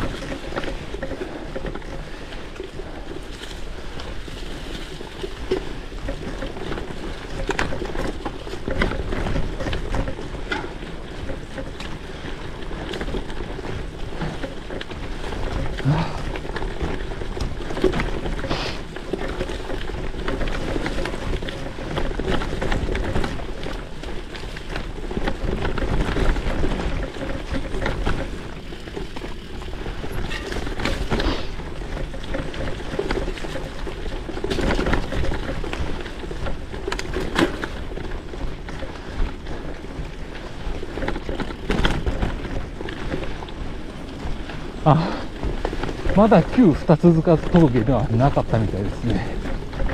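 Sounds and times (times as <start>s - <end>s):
bike knocks and rattles: 0.0s - 49.9s
bike tyres rolling on gravel: 0.0s - 49.9s.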